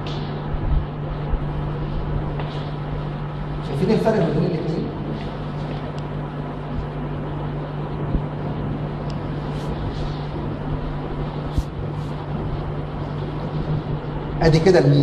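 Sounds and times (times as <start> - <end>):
constant low hum: 0.0 - 15.0
steady rushing noise: 0.0 - 15.0.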